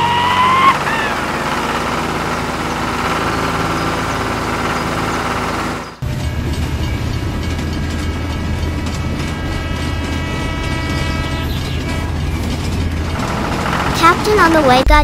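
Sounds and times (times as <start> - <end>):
train running: 0.0 - 15.0
vehicle engine running: 0.0 - 15.0.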